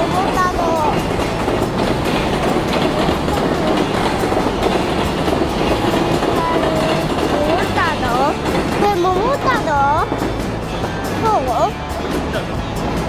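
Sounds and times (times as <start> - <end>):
freight train rumbling: 0.0 - 13.0
wheels clacking over rail joints: 0.0 - 13.0.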